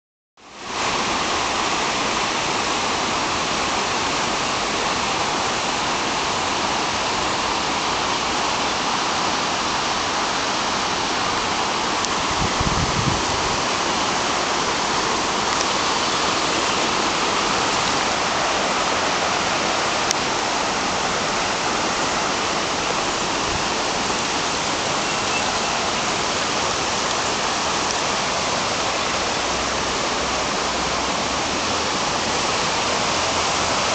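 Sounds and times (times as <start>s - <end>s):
flood water rushing over rocks: 0.4s - 33.9s.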